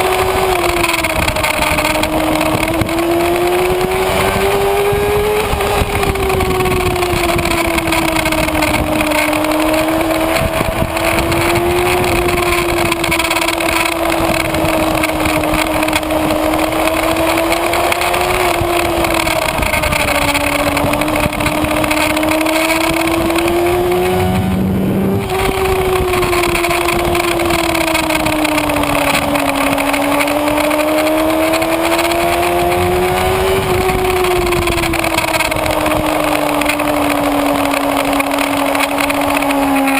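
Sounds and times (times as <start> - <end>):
motorcycle engine at high revs: 0.0 - 39.9
wind noise: 0.0 - 39.9.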